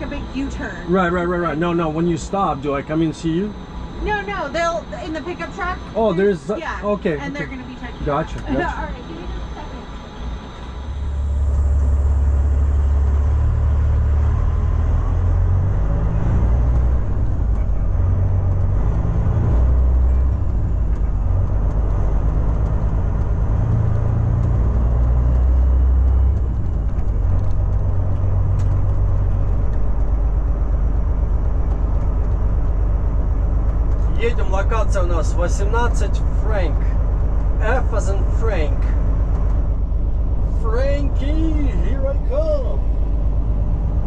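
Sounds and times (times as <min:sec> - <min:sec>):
diesel truck engine droning: 0:00.0 - 0:44.0.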